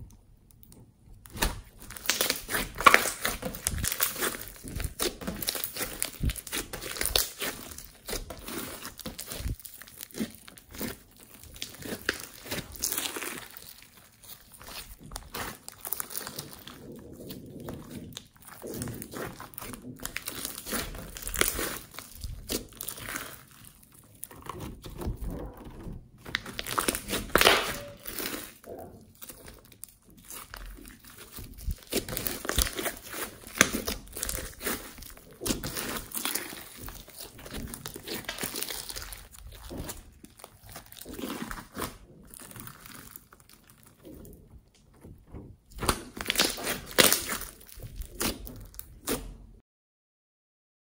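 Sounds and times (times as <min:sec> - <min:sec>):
slime crackling and squishing: 0:00.0 - 0:49.6.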